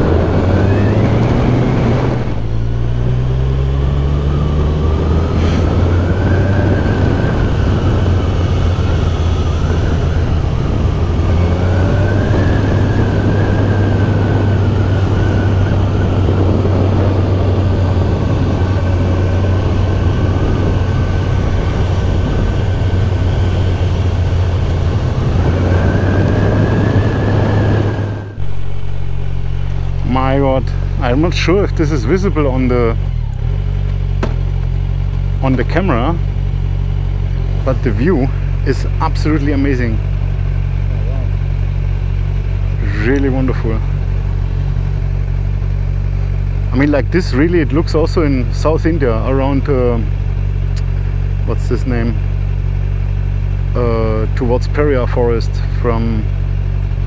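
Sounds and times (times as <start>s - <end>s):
motorcycle engine whining: 0.0s - 57.0s.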